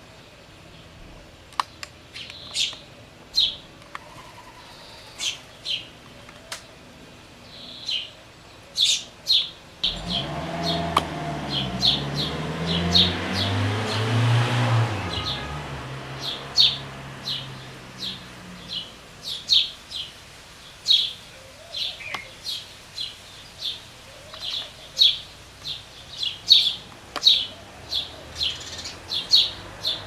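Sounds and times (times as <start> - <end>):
nestling birds chirping: 1.6 - 30.0.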